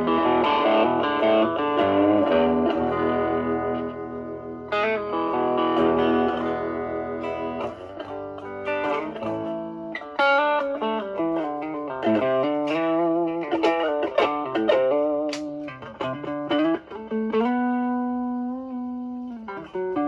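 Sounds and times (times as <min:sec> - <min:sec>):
electric guitar chord ringing: 0:00.0 - 0:20.0
electric guitar lead lines: 0:00.0 - 0:20.0.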